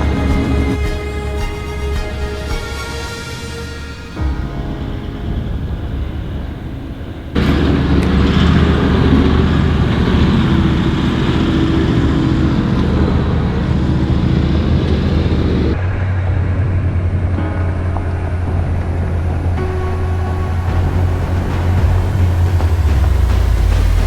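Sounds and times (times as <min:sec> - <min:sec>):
low engine drone: 0:00.0 - 0:24.0
road and tyre noise: 0:00.0 - 0:24.0.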